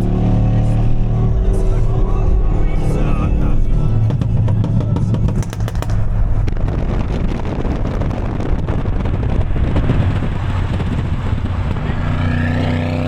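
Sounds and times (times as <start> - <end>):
car engine running under throttle: 0.0 - 13.0
engine crackles: 0.0 - 13.0.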